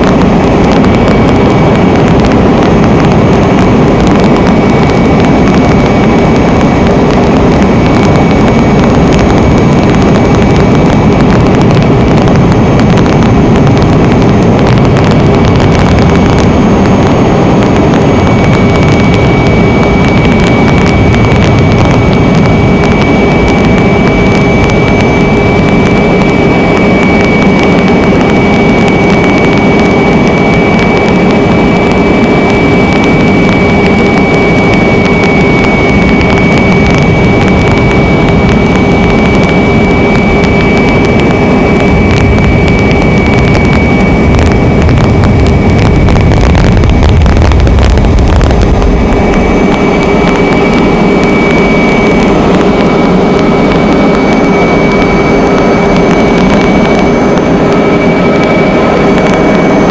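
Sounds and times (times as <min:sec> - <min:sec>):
aircraft engine drone: 0:00.0 - 0:59.9
low rumble: 0:00.0 - 0:59.9.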